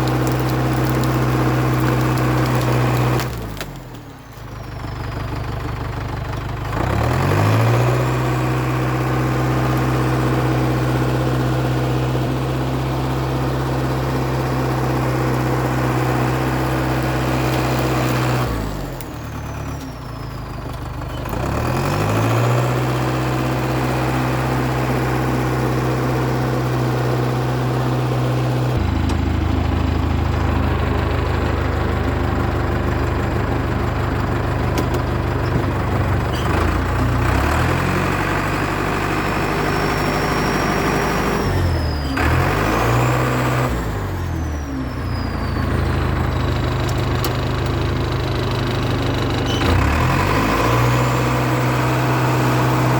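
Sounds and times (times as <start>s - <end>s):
bulldozer diesel engine revving: 0.0s - 52.9s.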